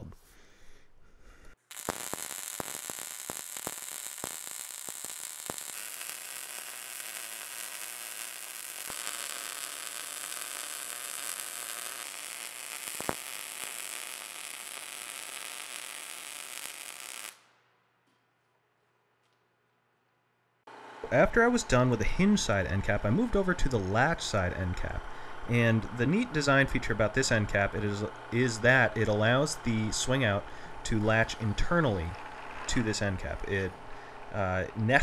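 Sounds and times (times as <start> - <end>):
welding arc crackling: 1.6 - 17.6, 21.0 - 35.0.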